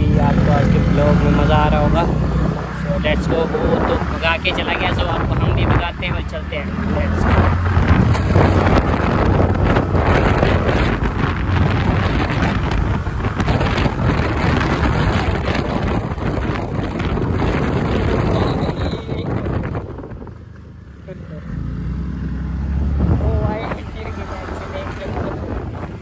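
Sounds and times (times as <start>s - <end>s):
wind rushing over microphone: 0.0s - 20.9s, 21.5s - 26.0s
road noise: 0.0s - 26.0s.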